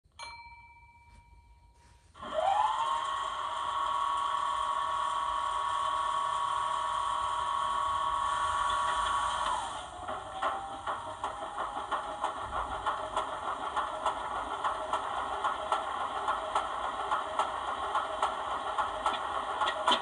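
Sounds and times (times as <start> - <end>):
model locomotive diesel engine: 2.2 - 20.0.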